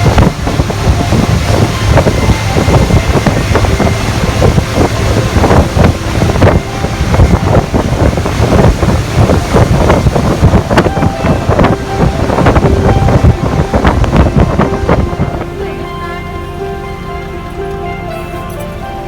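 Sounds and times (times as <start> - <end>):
motorboat running: 0.0 - 19.0
wind buffeting microphone: 0.0 - 19.0.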